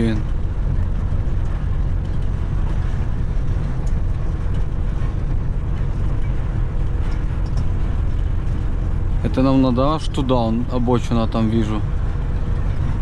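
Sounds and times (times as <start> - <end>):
diesel engine rumble: 0.0 - 13.0
tyres on cobblestones: 0.0 - 13.0.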